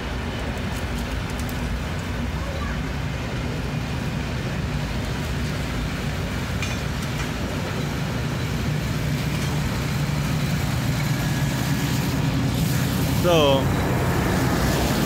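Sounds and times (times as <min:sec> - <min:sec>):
train coaches rumbling on rails: 0:00.0 - 0:15.0.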